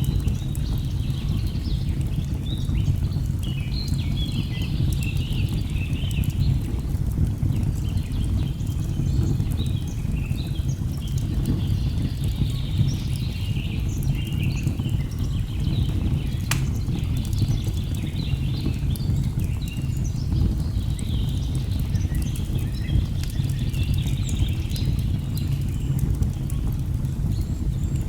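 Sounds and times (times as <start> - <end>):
log fire crackling: 0.0 - 28.0.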